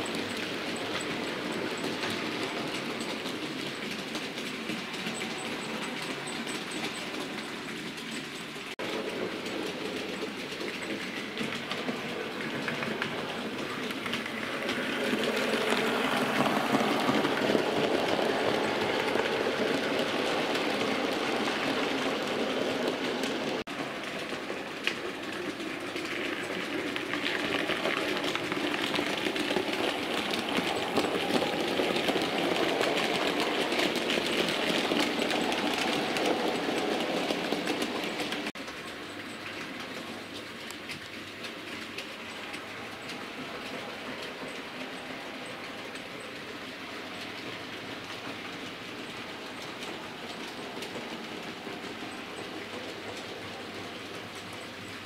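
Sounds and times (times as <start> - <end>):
wheels clicking over rail joints: 0.0 - 55.0.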